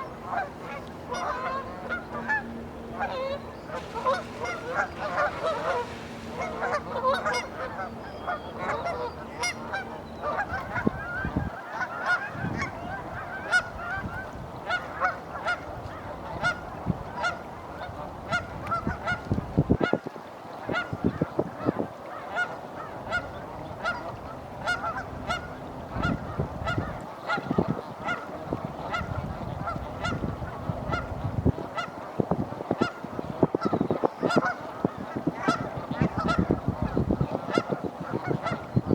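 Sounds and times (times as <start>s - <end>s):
geese honking: 0.0s - 19.2s, 20.7s - 32.0s, 32.6s - 38.9s.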